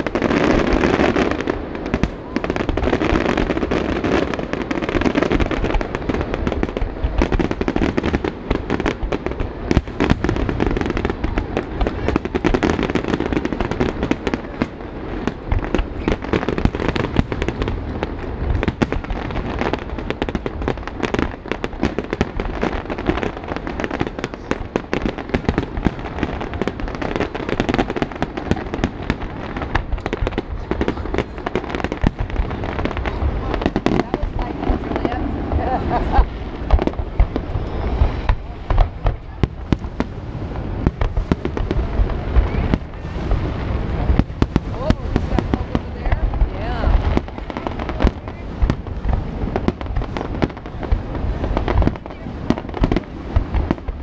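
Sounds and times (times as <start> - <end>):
fireworks bursts and crackles: 0.0 - 54.0.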